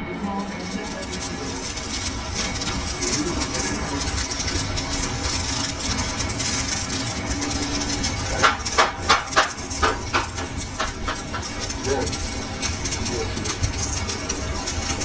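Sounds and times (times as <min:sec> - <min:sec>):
workshop machinery hum: 0:00.0 - 0:15.0.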